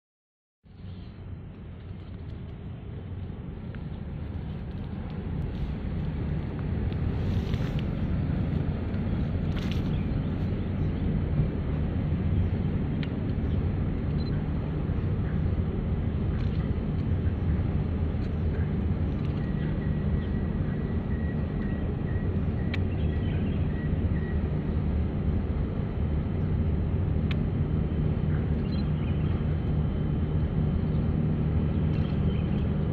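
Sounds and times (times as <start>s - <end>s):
ship engine drone: 0.7s - 32.9s.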